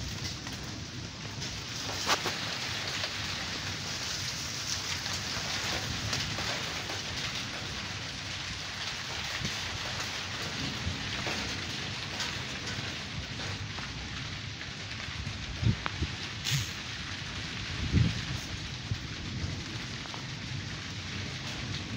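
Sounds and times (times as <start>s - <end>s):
raindrop hits: 0.0s - 21.9s
steady rain hiss: 0.0s - 21.9s.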